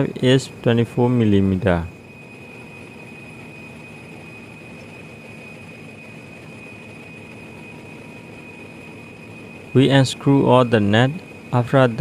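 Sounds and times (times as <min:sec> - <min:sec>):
engine-room machinery drone: 0:00.0 - 0:12.0
thin high whine: 0:00.0 - 0:12.0.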